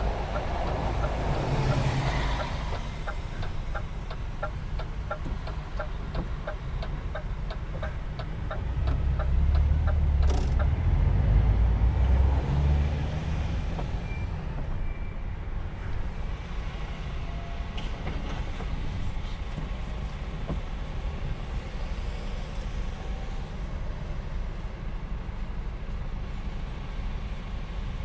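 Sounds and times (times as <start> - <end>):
truck engine rumble: 0.0 - 28.0.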